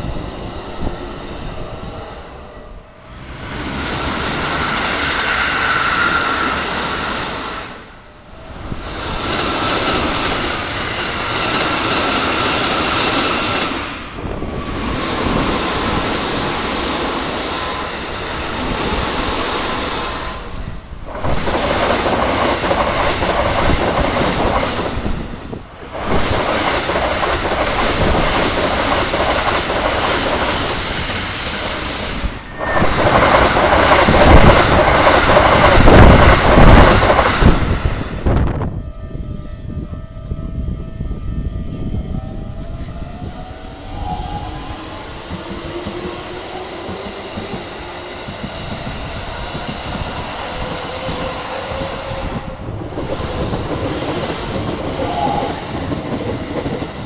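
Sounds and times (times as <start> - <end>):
electric train passing at speed: 0.0 - 57.0.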